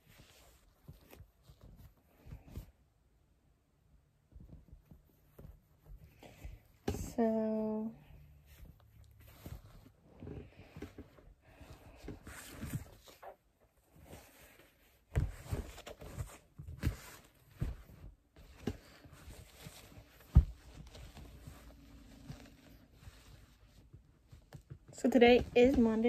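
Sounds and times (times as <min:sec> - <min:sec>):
cloth rustling: 0:00.0 - 0:02.9, 0:04.2 - 0:26.0
soft bumps from handling doll: 0:00.0 - 0:02.9, 0:04.2 - 0:26.0.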